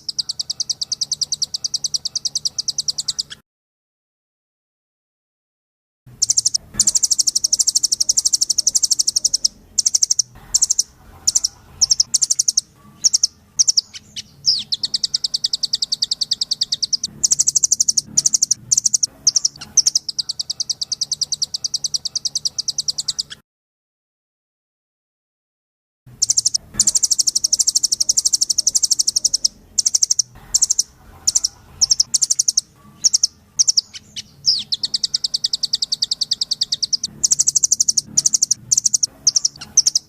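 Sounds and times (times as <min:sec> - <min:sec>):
nuthatch singing high trills: 0:00.0 - 0:03.4, 0:06.2 - 0:23.4, 0:26.2 - 0:40.0.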